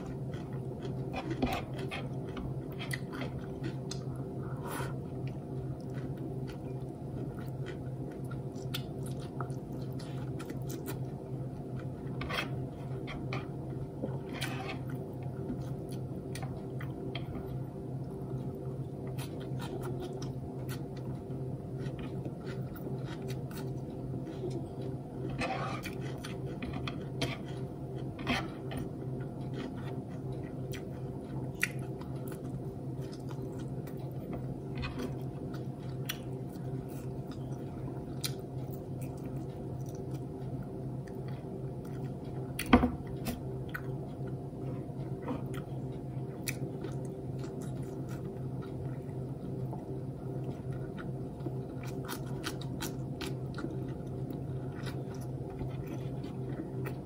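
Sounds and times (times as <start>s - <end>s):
person chewing food: 0.0s - 57.0s
steady low hum: 0.0s - 57.0s.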